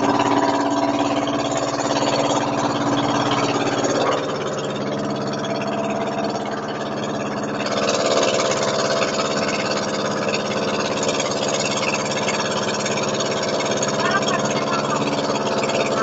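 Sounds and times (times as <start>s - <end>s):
boat engine running: 0.0s - 16.0s
water rushing along hull: 0.0s - 16.0s.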